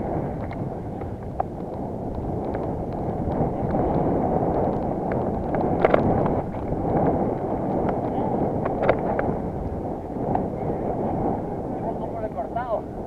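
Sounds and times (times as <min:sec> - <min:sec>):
bike clicks and rattles: 0:00.0 - 0:11.2
bike tyres rolling on dirt: 0:00.0 - 0:13.0
wind buffeting microphone: 0:00.0 - 0:13.0.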